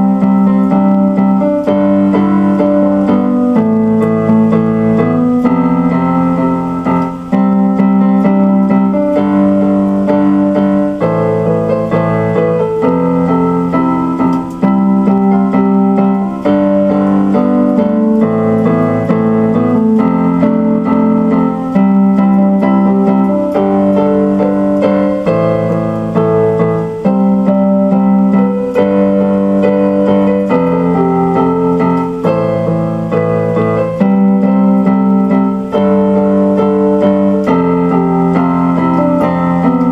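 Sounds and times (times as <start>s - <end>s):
piano chords: 0.0s - 39.9s
steady bass line: 0.0s - 39.9s.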